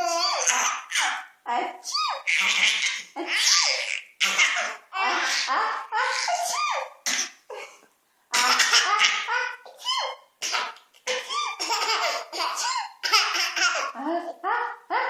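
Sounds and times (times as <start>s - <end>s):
baby laughing: 0.0s - 1.2s, 1.9s - 7.3s, 8.3s - 14.3s.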